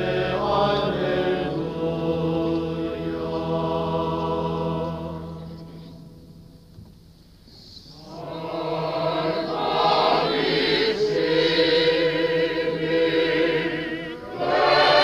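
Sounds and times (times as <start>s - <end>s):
choir singing chant: 0.0s - 6.1s, 8.0s - 15.0s.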